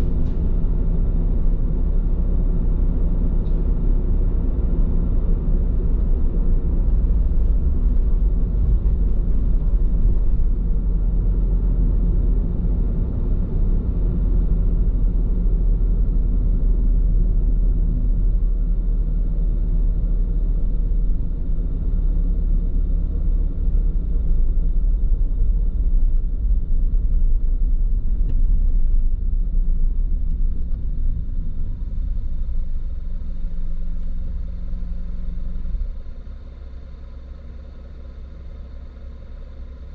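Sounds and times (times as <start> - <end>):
tyre road rumble inside car: 0.0 - 39.9.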